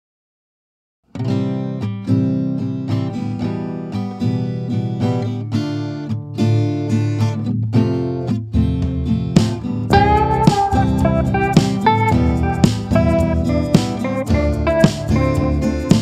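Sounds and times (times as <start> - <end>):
acoustic guitar strumming: 1.1 - 16.0.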